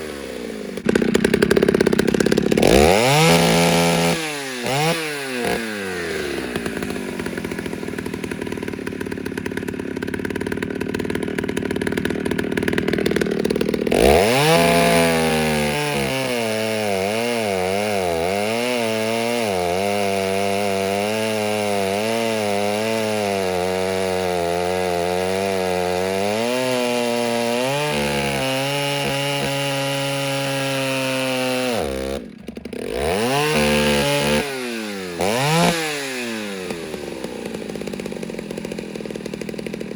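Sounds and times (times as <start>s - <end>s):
chainsaw cutting wood: 0.0s - 39.9s
chainsaw idling and revving: 0.0s - 39.9s.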